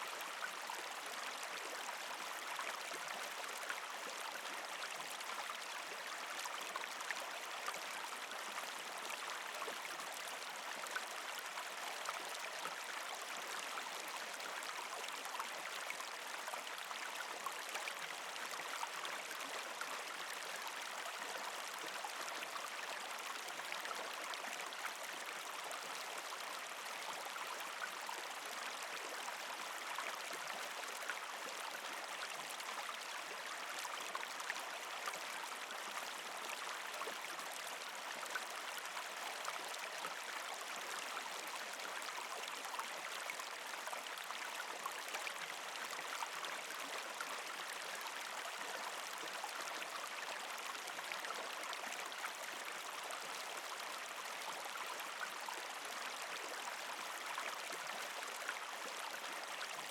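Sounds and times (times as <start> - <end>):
creek water gurgling over rocks: 0.0 - 59.9.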